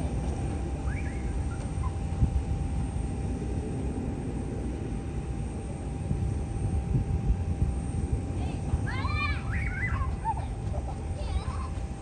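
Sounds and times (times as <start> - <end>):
distant jet engines rumbling: 0.0 - 12.0
faint steady whine: 0.0 - 12.0.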